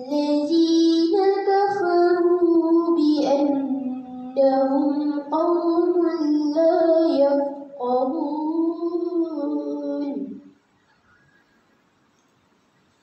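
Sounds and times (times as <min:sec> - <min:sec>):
girl chanting melodically: 0:00.0 - 0:10.5.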